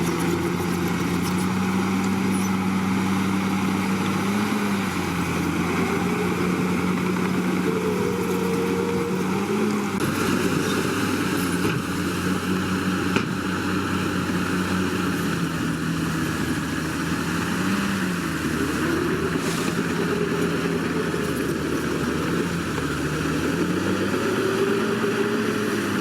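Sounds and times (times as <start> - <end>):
bulldozer diesel engine revving: 0.0 - 26.0.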